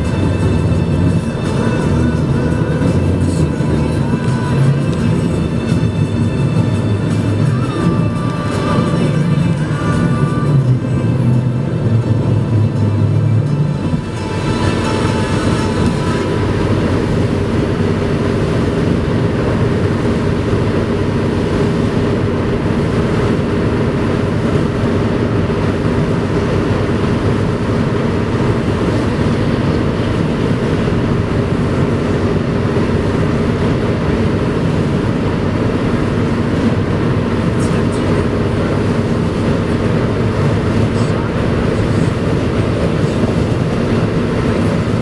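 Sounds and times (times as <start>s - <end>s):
low engine hum: 0.0s - 45.0s.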